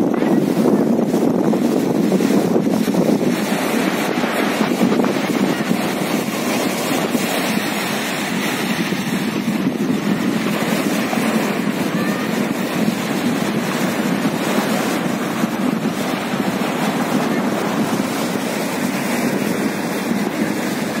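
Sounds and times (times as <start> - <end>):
small waves washing on sand: 0.0 - 21.0.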